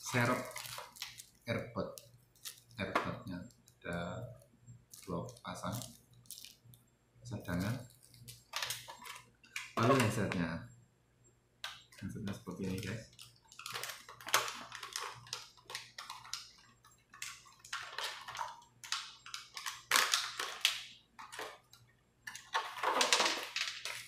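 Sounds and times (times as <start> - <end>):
plastic packaging crinkling: 0.0 - 3.8, 4.9 - 6.8, 7.4 - 10.4, 12.0 - 21.7, 22.3 - 24.0.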